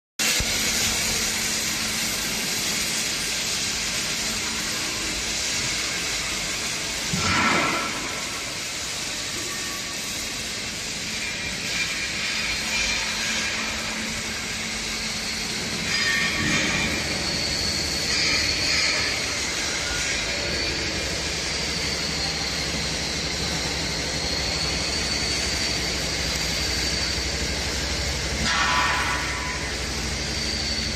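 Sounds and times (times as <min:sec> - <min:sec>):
factory hall hiss: 0:00.2 - 0:30.9
thin high whine: 0:00.2 - 0:30.9.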